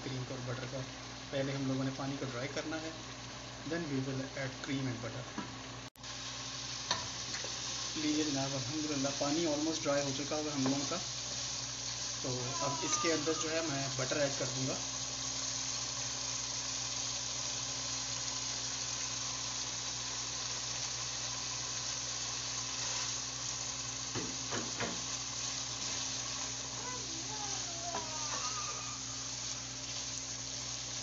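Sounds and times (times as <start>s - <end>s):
butter sizzling in a pot: 0.0s - 31.0s.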